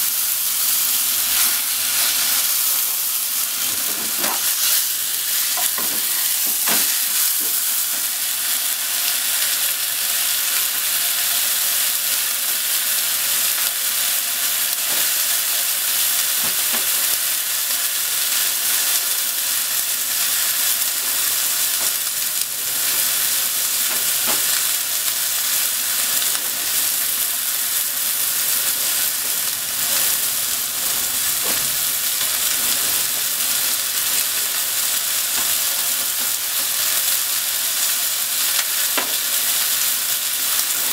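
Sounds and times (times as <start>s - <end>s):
chicken sizzling in oil: 0.0s - 40.9s.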